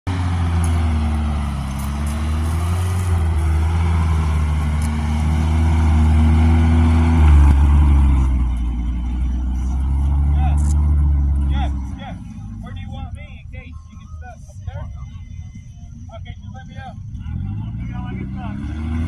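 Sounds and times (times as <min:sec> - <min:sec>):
truck engine running at low revs: 0:00.1 - 0:19.0.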